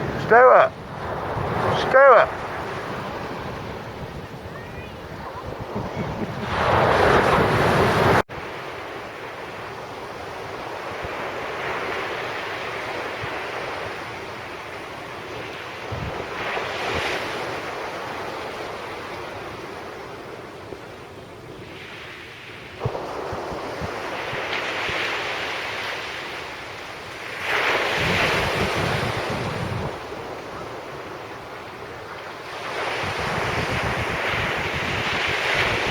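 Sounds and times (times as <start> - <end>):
wind buffeting microphone: 0.0 - 8.6, 10.1 - 19.6, 22.7 - 25.8, 27.0 - 35.9
surf breaking on beach: 0.0 - 35.9.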